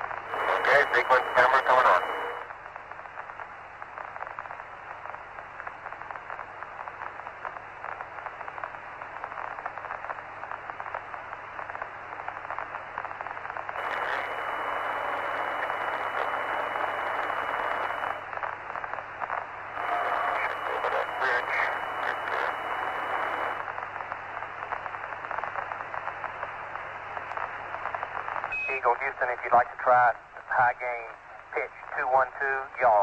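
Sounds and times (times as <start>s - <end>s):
crackling radio static: 0.0s - 33.0s.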